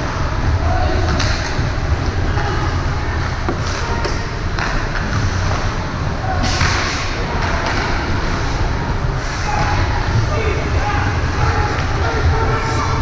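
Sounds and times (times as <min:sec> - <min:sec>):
low rumble and hubbub: 0:00.0 - 0:13.0.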